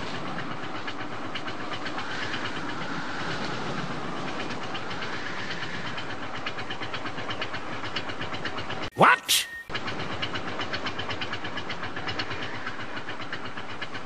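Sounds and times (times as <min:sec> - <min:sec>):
cartoon steam locomotive clatter: 0:00.0 - 0:14.0.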